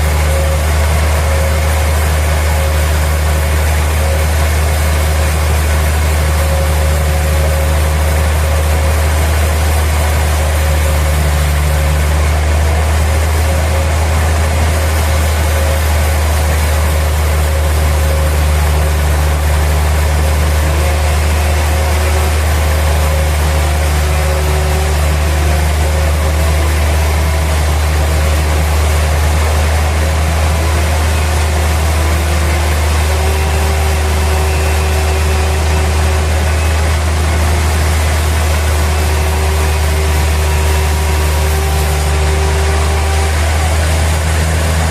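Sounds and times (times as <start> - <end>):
sawmill machinery humming: 0.0 - 44.9.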